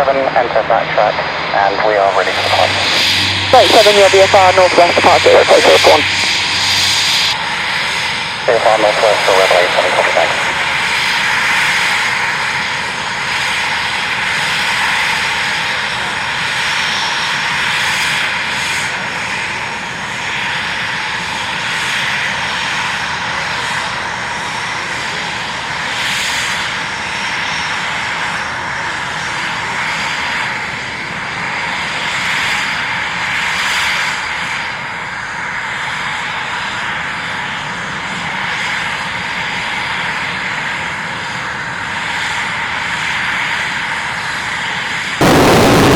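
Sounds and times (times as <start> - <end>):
aircraft engines running: 0.0 - 45.9
high engine whine: 0.0 - 45.9.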